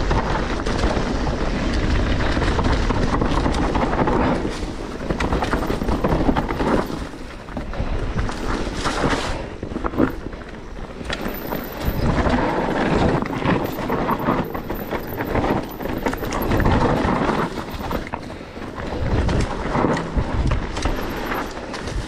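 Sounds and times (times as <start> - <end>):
bike clattering: 0.0 - 22.0
tyres crunching over rocks: 0.3 - 22.0.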